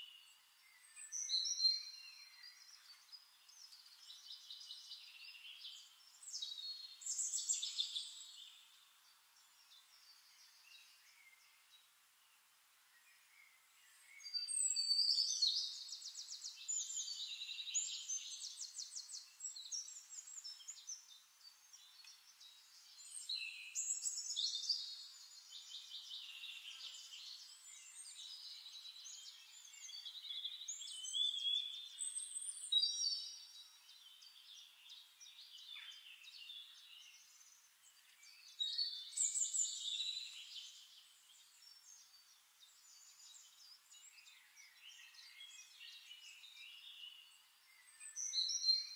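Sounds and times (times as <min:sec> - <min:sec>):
birdsong warbling and trilling: 0:00.0 - 0:11.9, 0:13.0 - 0:48.9.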